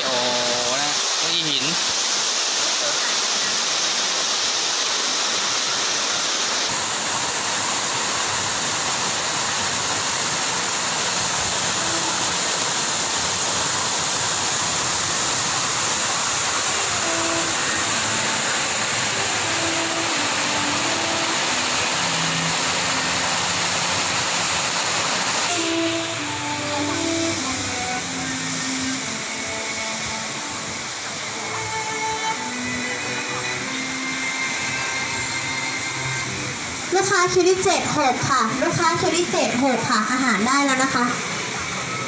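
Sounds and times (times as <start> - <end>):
water rushing over rocks: 0.0 - 42.0.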